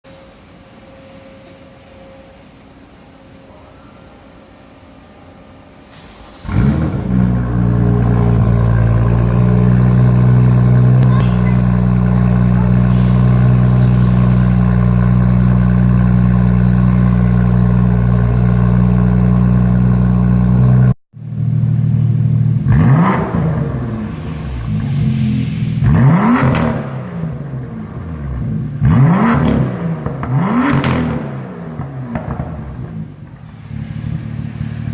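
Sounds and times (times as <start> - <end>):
car engine idling: 5.6 - 29.0, 29.6 - 34.9
engine throttle blips: 6.0 - 34.9.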